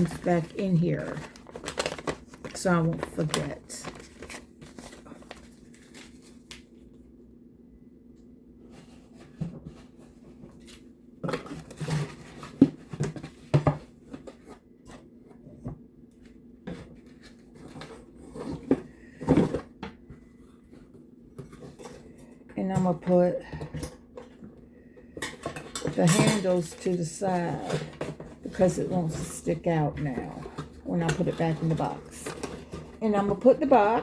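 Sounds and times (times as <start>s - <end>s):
cardboard box packing noises: 0.0s - 6.9s, 8.6s - 15.7s, 16.6s - 24.6s, 25.4s - 34.0s.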